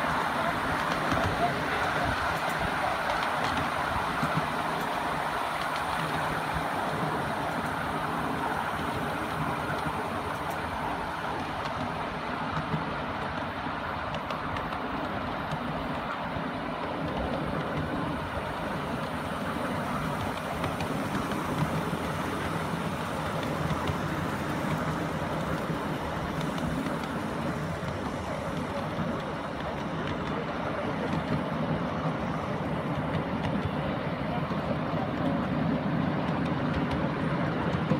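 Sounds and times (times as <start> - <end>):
train wheels clattering on track: 0.0 - 37.9.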